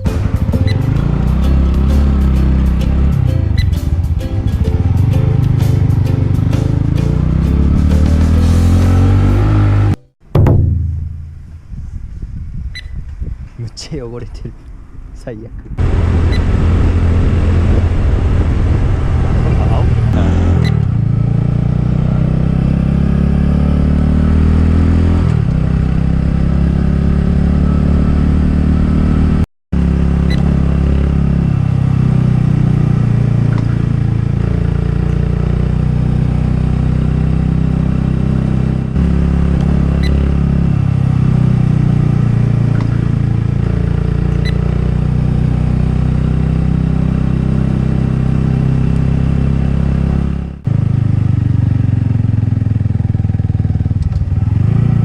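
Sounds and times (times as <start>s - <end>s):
motorcycle engine running: 0.0s - 13.4s, 15.8s - 55.0s.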